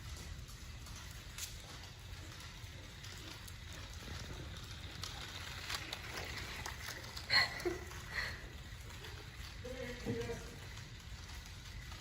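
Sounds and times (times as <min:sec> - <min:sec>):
dogs clicking and scuffling: 0:00.0 - 0:12.0.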